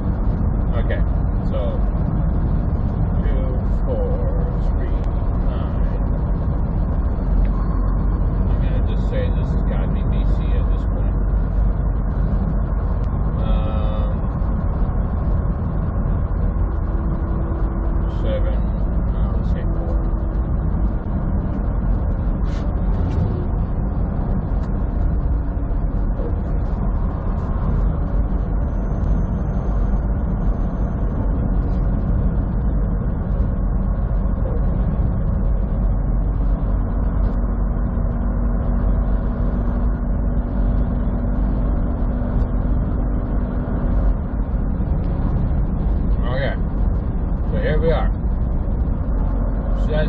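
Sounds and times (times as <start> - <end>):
road rumble: 0.0 - 50.0
truck engine drone: 0.0 - 50.0.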